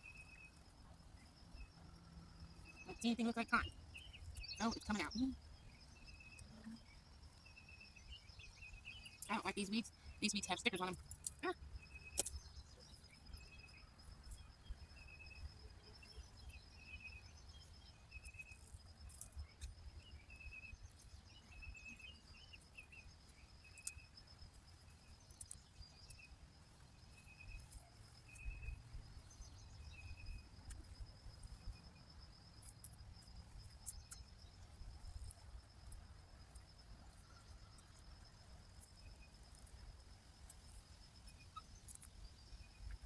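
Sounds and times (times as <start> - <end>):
insects trilling: 0.0 - 43.0
short insect chirps: 0.0 - 43.0.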